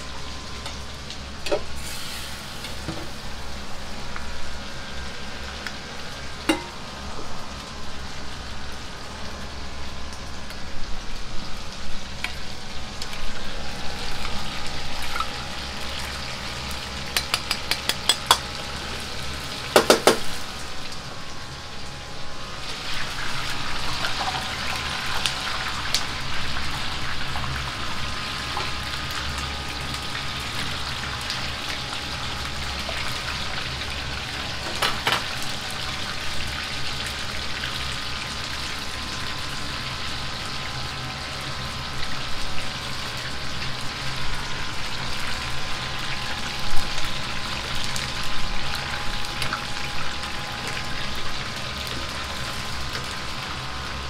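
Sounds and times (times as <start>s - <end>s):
chicken deep-frying in oil: 0.0s - 54.0s
gas burner hum: 0.0s - 54.0s
ladle working food in oil: 0.0s - 54.0s.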